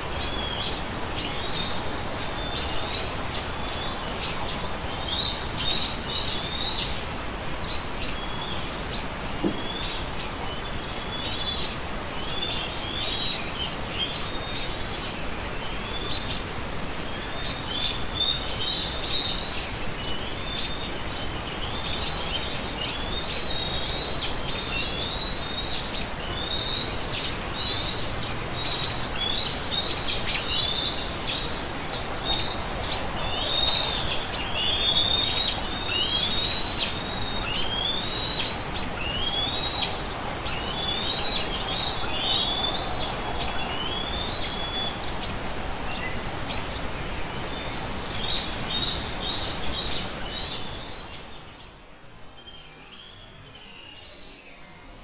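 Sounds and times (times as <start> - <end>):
steady outdoor hiss: 0.0 - 55.0.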